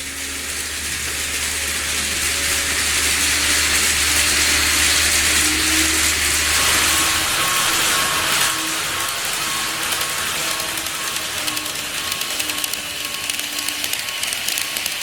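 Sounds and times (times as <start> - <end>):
faint motor whine: 0.0 - 15.0
model train rumbling on track: 0.0 - 15.0.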